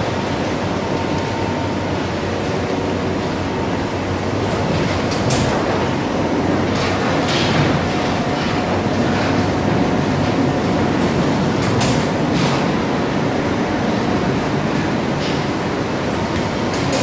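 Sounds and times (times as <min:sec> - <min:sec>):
machinery drone and hum: 0:00.0 - 0:17.0.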